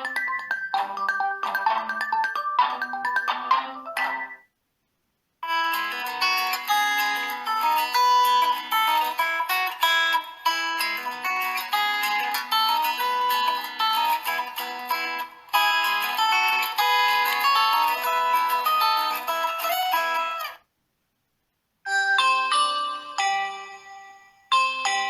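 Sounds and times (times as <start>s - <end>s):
plucked guitar-like ringtone: 0.0s - 4.5s, 5.4s - 20.6s, 21.9s - 25.0s.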